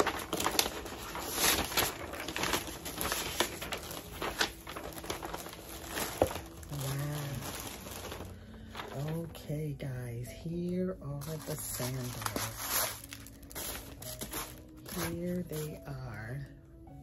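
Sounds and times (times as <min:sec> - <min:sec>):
paper and packaging rustling: 0:00.0 - 0:09.7, 0:10.5 - 0:16.5.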